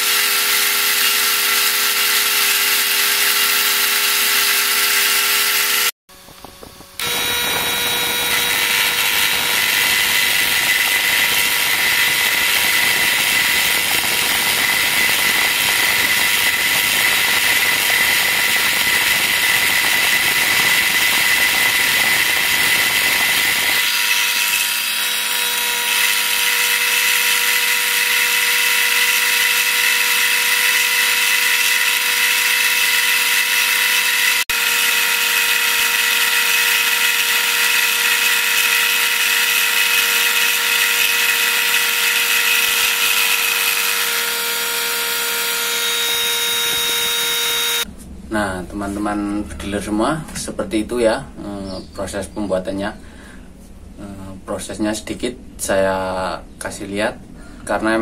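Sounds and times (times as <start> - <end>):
milling cutter rasping metal: 0.0 - 5.9, 7.0 - 47.9
motor whine: 0.0 - 47.9.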